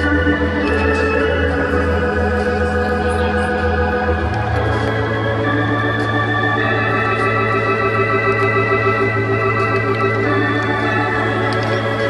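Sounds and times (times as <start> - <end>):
organ chords: 0.0 - 12.0.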